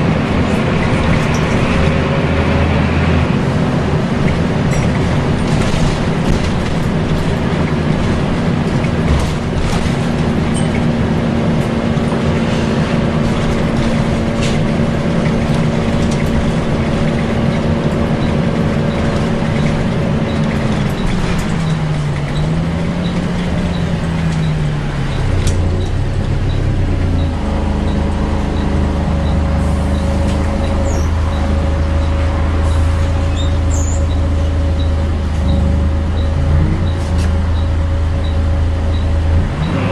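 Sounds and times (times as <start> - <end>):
bus engine and cooling fan: 0.0 - 39.9.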